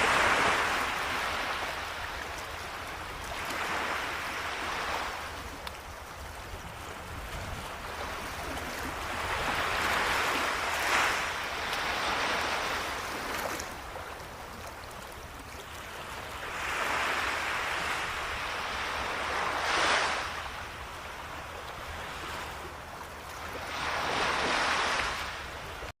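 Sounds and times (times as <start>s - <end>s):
ocean waves washing on shore: 0.0s - 25.9s.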